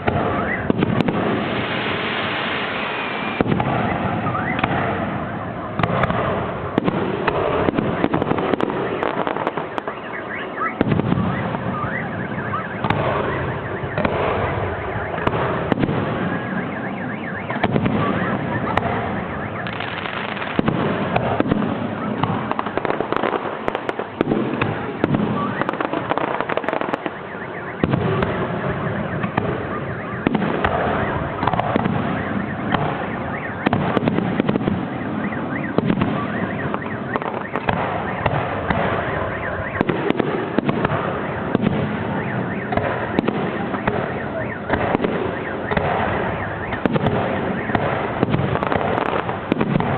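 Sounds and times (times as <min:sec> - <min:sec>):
fireworks bursting and crackling: 0:00.0 - 0:49.9.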